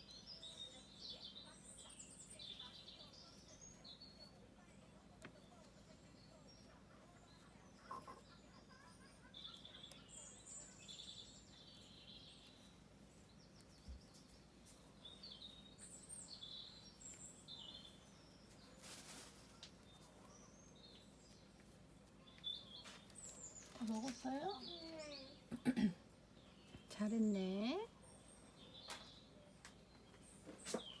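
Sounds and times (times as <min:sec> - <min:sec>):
songbirds chirping and trilling: 0:00.0 - 0:31.0.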